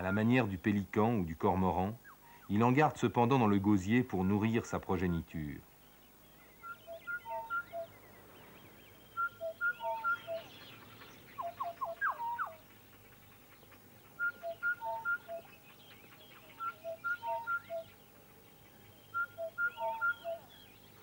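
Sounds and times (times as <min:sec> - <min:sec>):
faint chirping: 0:00.0 - 0:21.0.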